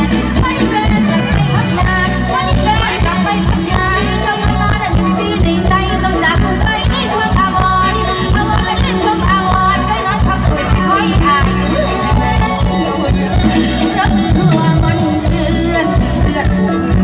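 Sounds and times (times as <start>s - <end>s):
steady drum beat: 0.0s - 17.0s
woman singing: 0.0s - 17.0s.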